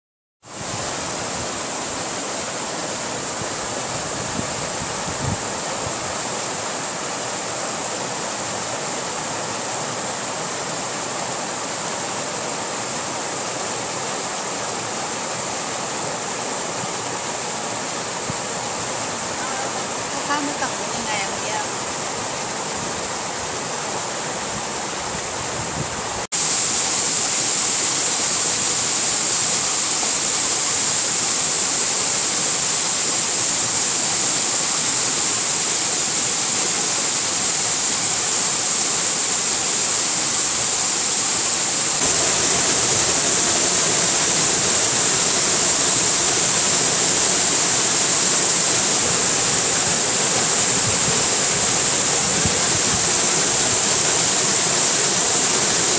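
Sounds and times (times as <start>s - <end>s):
waterfall rushing: 0.5s - 25.5s, 26.1s - 55.9s.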